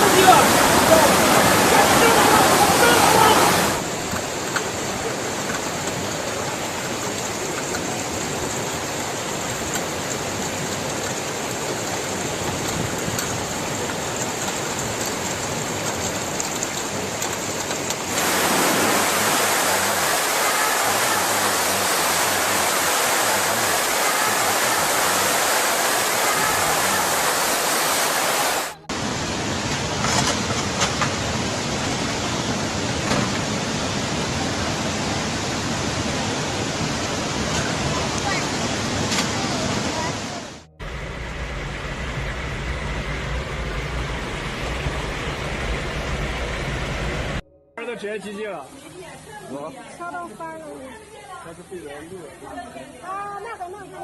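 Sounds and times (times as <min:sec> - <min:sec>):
floodwater rushing: 0:00.0 - 0:47.4.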